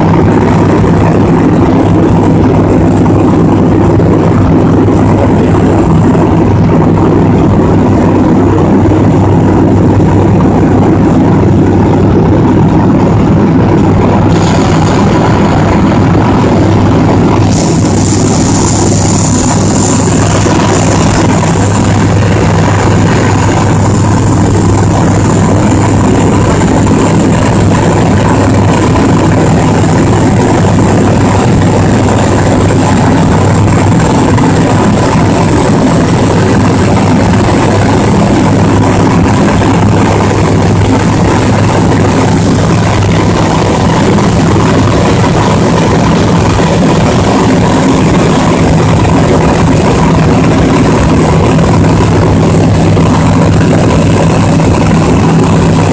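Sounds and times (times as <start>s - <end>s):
propeller engine drone: 0.0s - 55.9s.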